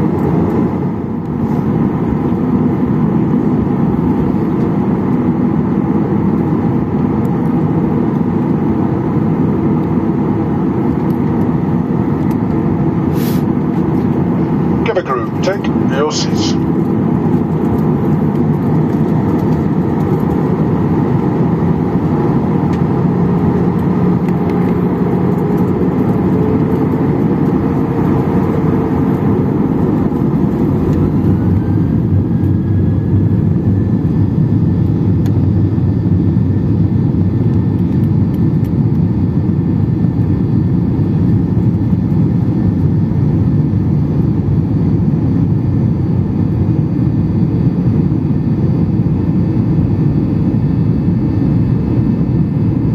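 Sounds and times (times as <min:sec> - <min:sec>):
jet engine whine rising: 0:00.0 - 0:52.9
jet engines roaring in cabin: 0:00.0 - 0:52.9.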